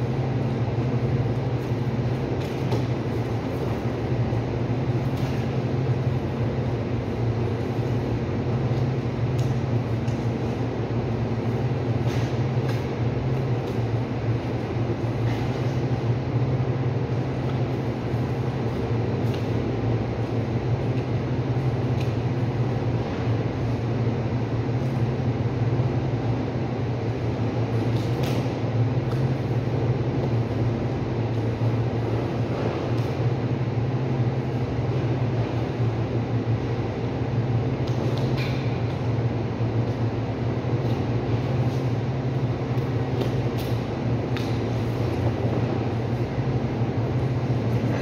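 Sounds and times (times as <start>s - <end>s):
cooling unit humming: 0.0s - 48.0s.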